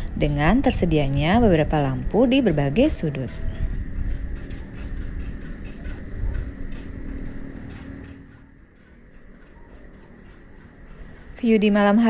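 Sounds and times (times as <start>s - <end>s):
crickets chirping: 0.0s - 12.0s
low outdoor rumble: 0.0s - 12.0s.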